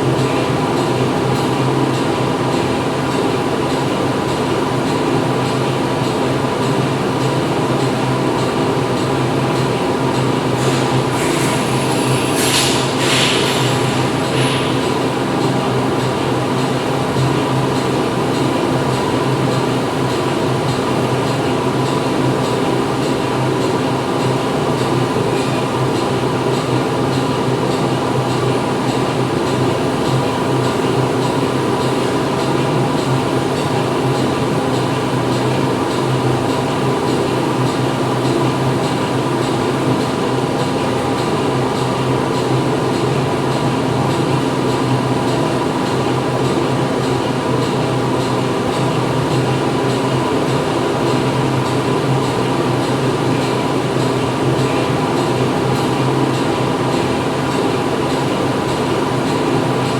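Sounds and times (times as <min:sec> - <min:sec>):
factory machinery humming: 0:00.0 - 0:59.9.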